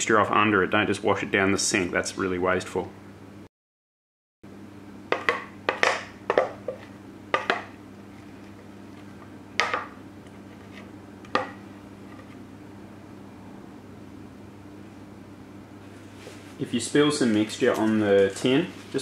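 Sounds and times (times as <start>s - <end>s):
steady low hum: 0.0s - 3.5s, 4.4s - 19.0s.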